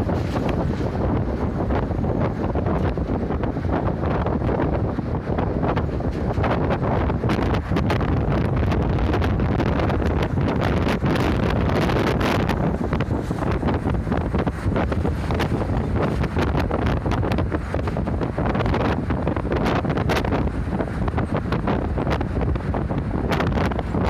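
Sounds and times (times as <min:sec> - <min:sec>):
bus road noise: 0:00.0 - 0:24.0
wind buffeting microphone: 0:00.0 - 0:24.0.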